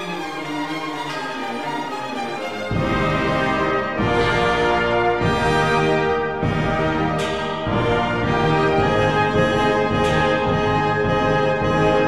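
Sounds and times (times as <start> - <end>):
orchestral music with brass: 0.0 - 12.0.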